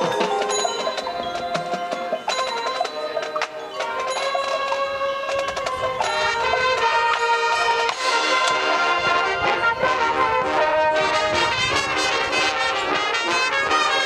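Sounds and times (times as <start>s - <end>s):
bells and marimba: 0.0s - 14.0s
marching band front ensemble: 0.0s - 14.0s.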